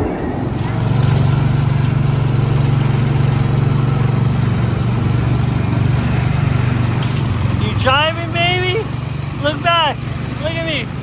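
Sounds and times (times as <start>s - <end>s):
small gasoline engine running: 0.4s - 11.0s.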